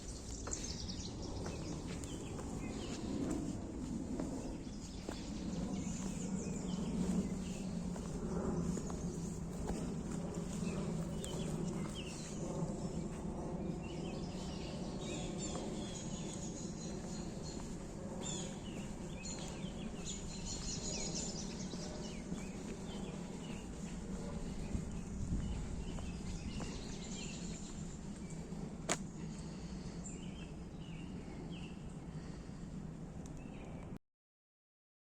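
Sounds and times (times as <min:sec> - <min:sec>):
birds chirping and singing: 0:00.0 - 0:32.4
low background rush: 0:00.0 - 0:33.9.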